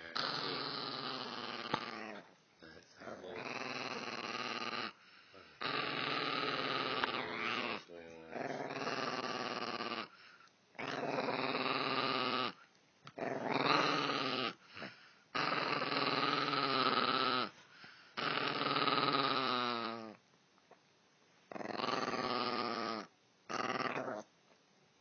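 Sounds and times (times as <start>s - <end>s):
dog growling: 0.0s - 10.2s, 10.8s - 17.6s, 18.2s - 20.2s, 21.5s - 24.3s.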